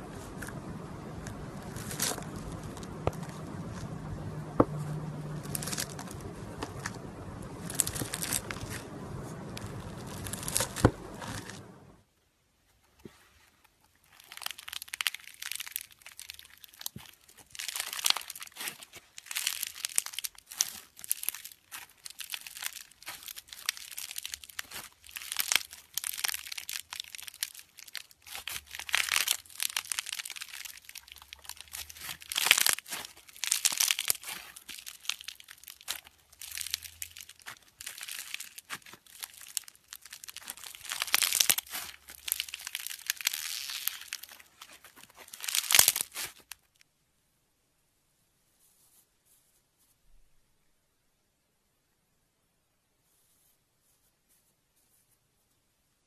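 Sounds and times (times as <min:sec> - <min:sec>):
foam bead slime crackling: 0:00.0 - 0:12.0, 0:13.8 - 0:46.8.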